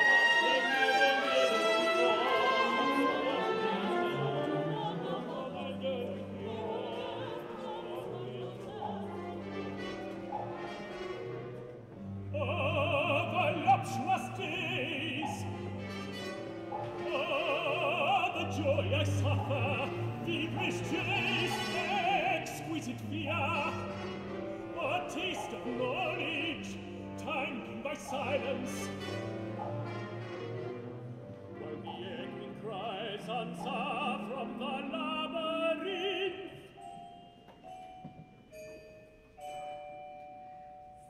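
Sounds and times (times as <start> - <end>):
male opera singer: 0.0 - 10.0, 12.3 - 30.3, 31.5 - 36.9
soft orchestral accompaniment: 0.0 - 41.0.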